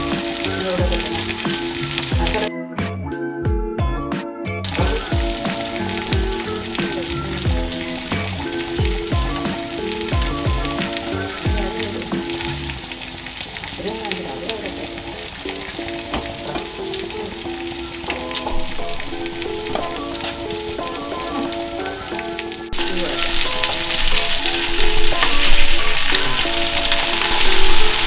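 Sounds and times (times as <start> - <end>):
fish sizzling in oil: 0.0 - 2.5, 4.7 - 28.0
light background music: 0.0 - 28.0.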